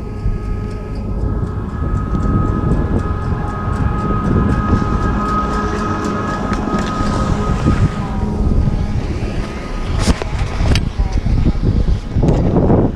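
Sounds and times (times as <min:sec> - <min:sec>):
chairlift machinery whine: 0:00.0 - 0:12.9
wind rumble on microphone: 0:00.0 - 0:12.9.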